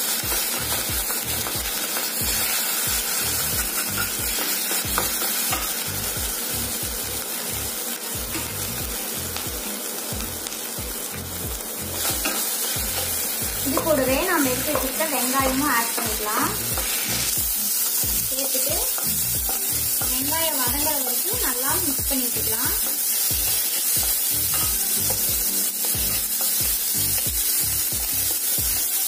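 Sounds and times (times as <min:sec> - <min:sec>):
paste sizzling in hot oil: 0:00.0 - 0:29.0.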